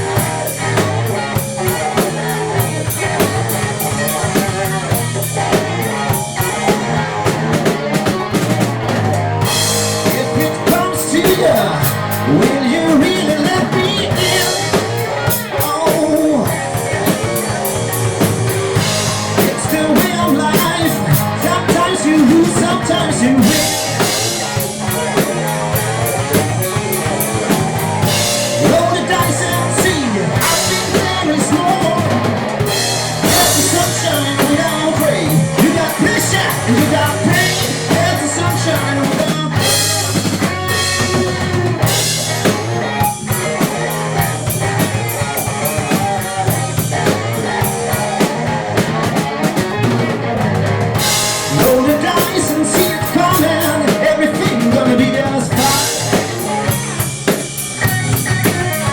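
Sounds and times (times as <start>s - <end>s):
bass guitar: 0.0s - 58.9s
drum kit: 0.0s - 58.9s
electric guitars: 0.0s - 58.9s.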